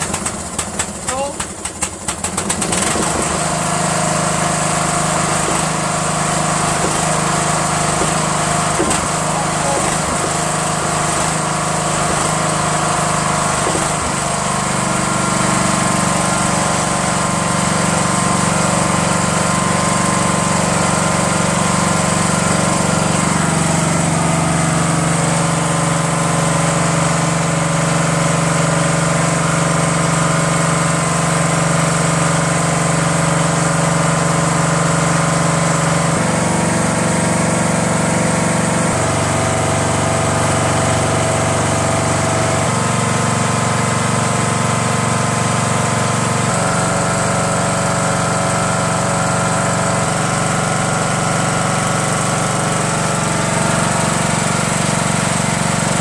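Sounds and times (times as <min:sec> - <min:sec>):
lawn tractor engine running: 0:00.0 - 0:56.0.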